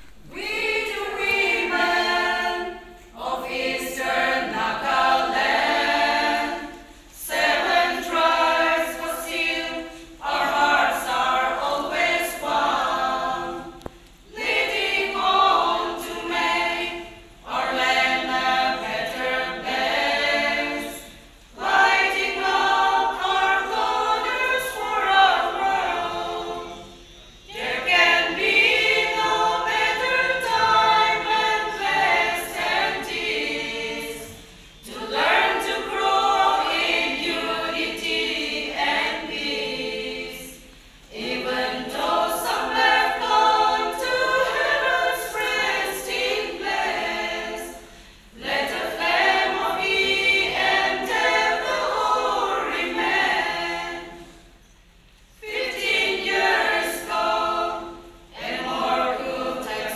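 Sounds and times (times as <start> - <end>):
women's choir singing unaccompanied: 0.0 - 59.9.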